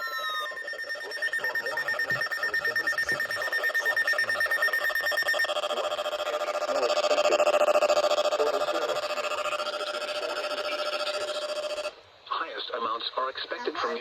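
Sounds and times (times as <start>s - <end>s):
high pulsing electronic beeps: 0.0s - 12.0s
lower pulsing alarm tones: 0.0s - 12.0s
steady alarm tone: 0.0s - 12.0s.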